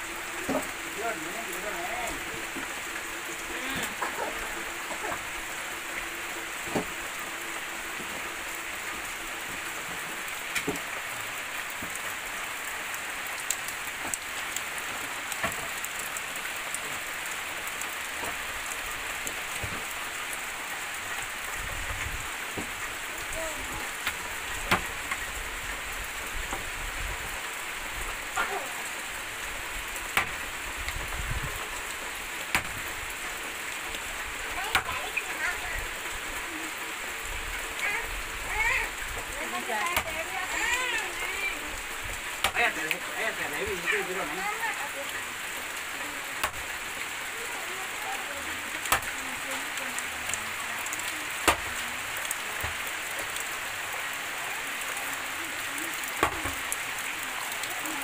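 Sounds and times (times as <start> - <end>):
heavy rain on foliage: 0.0 - 58.0.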